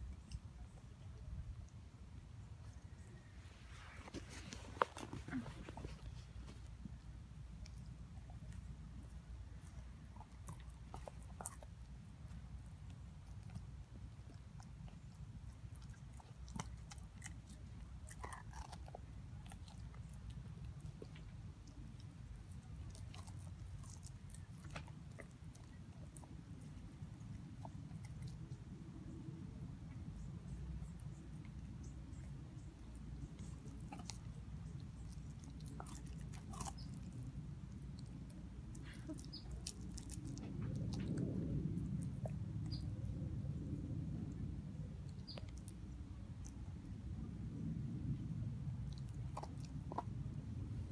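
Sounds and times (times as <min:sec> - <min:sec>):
dog chewing a bone: 0:02.6 - 0:50.9.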